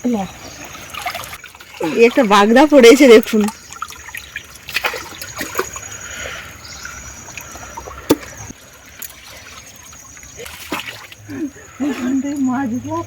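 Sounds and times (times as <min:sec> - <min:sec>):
shallow water splashing: 0:00.0 - 0:12.6.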